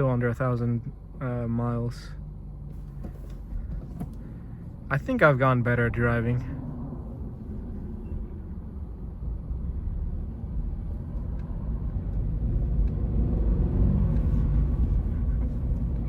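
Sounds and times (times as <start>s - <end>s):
car engine rumble in cabin: 0.0s - 16.0s
road noise: 0.0s - 16.0s.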